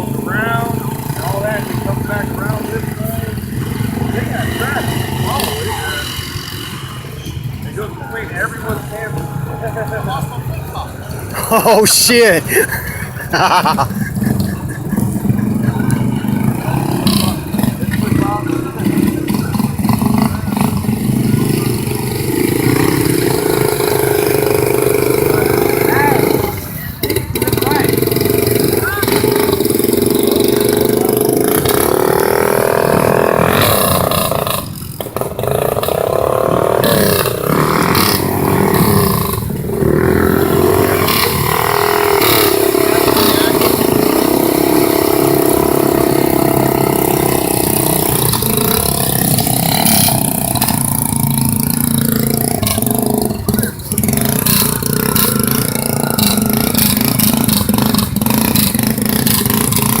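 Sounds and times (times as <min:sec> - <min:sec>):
atv engine revving: 0:00.0 - 1:00.0.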